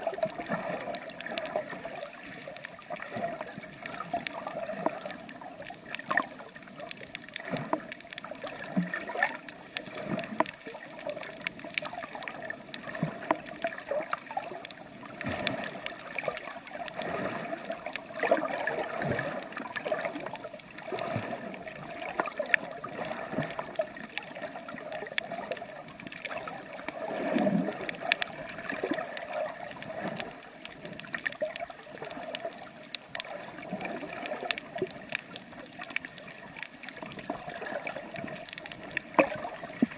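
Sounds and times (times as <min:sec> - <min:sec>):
small knocks and splashes: 0:00.0 - 0:39.9
water sloshing and gurgling: 0:00.0 - 0:39.9.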